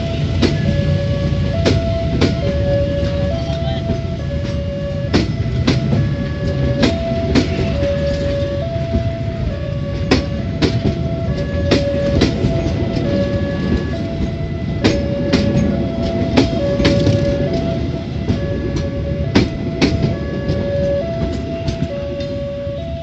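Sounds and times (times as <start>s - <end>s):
train coaches rumbling past: 0.0s - 23.0s
wheel clacks over rail joints: 0.0s - 23.0s.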